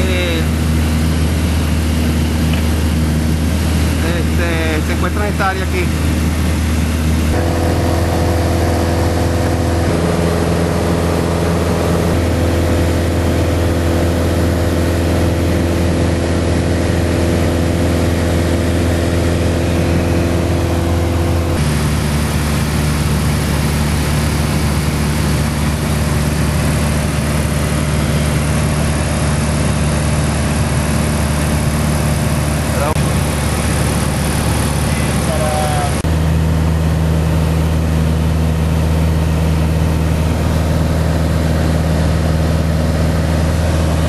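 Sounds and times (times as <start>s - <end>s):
light aircraft engine drone: 0.0s - 44.0s.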